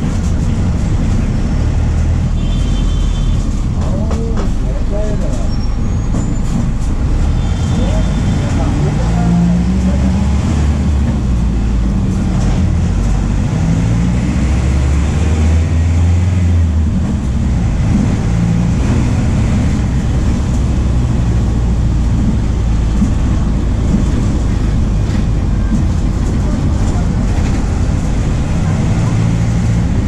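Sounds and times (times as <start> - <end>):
bus diesel engine running: 0.0 - 30.0
road noise: 0.0 - 30.0.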